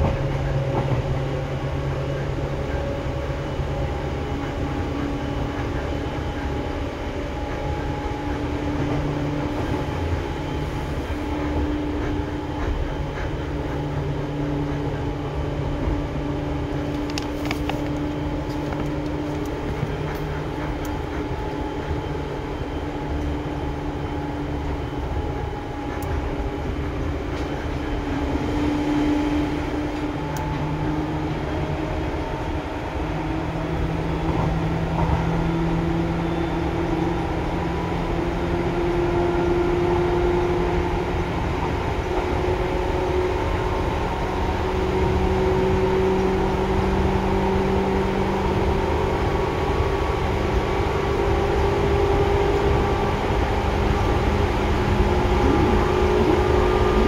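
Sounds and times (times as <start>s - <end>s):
electric train humming and whining: 0.0s - 57.0s.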